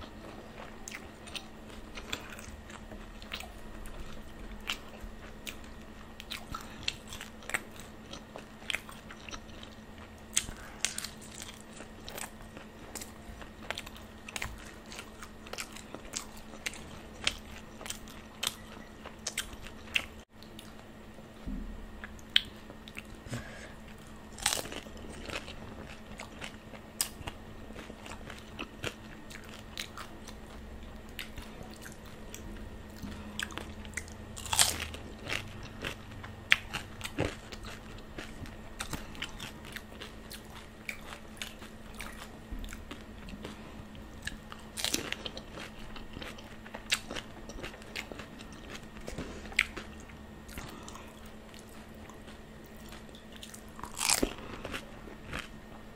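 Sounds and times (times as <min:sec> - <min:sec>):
crunching crisp food: 0:00.0 - 0:21.0, 0:22.0 - 0:55.9
faint steady hum: 0:00.0 - 0:55.9.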